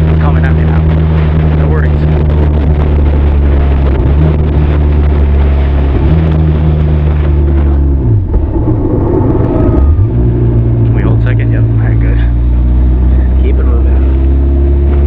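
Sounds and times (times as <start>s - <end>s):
motorcycle engine and exhaust: 0.0s - 15.0s.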